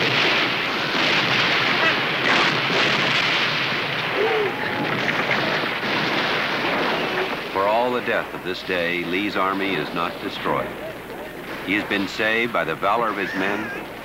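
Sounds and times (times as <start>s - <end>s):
explosions: 0.0s - 14.0s
musket fire: 0.0s - 14.0s.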